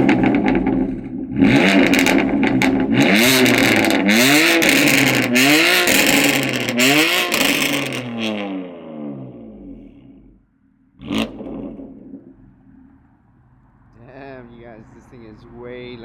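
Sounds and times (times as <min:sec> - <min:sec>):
exhaust crackles and pops: 0:00.0 - 0:08.6, 0:09.5 - 0:15.1
car engine revving: 0:00.0 - 0:16.0.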